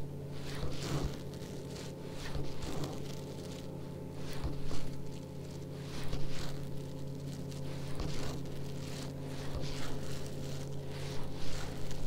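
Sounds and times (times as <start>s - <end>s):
small motor humming: 0.0s - 12.0s.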